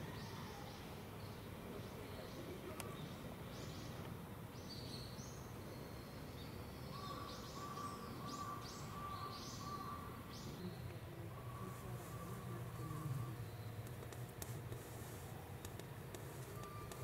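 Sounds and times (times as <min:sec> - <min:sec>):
low background hum: 0:00.0 - 0:17.0
small birds chirping: 0:00.1 - 0:17.0.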